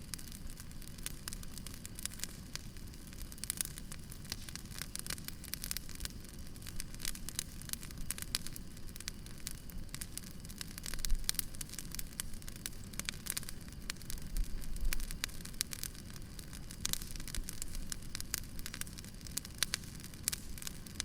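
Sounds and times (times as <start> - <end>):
wood fire crackling: 0.0 - 21.0
sharp pops and snaps: 0.2 - 21.0.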